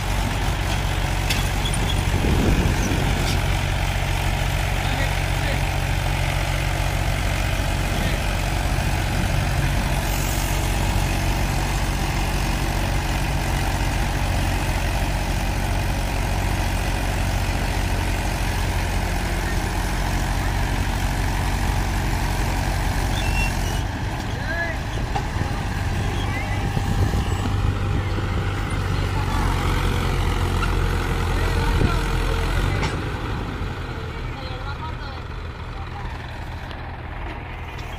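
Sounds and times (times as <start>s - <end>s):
second tractor engine running: 0.0s - 37.9s
tractor diesel engine idling: 0.0s - 37.9s.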